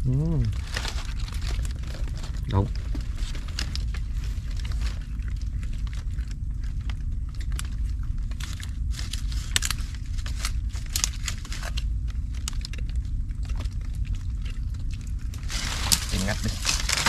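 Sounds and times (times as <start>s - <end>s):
steady low rumble: 0.0s - 17.0s
crackling and rustling clicks: 0.5s - 17.0s.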